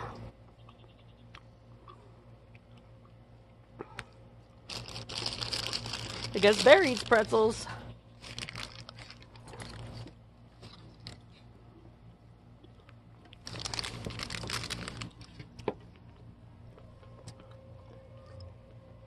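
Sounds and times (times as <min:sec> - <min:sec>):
puppy crunching pretzel: 0:01.3 - 0:07.4, 0:08.2 - 0:18.8.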